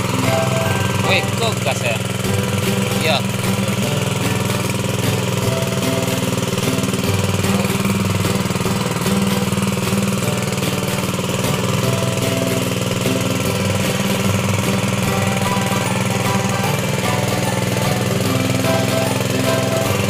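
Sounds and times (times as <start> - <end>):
water pump engine running: 0.0 - 20.0.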